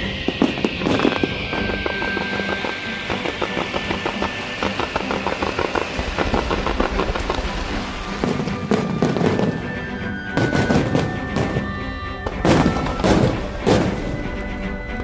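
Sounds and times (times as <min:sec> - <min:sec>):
fireworks crackling and popping: 0:00.0 - 0:15.0
music: 0:00.0 - 0:15.0.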